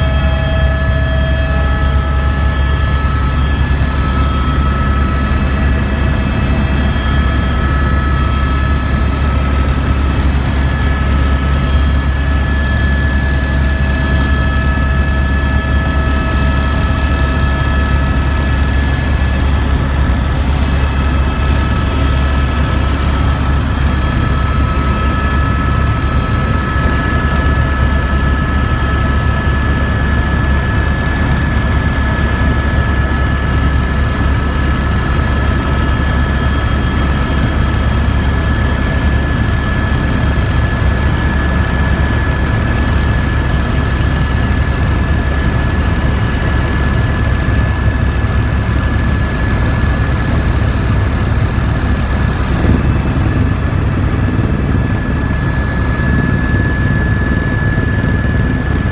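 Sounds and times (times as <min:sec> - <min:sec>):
helicopter drone: 0:00.0 - 0:58.9
helicopter high whine: 0:00.0 - 0:58.9.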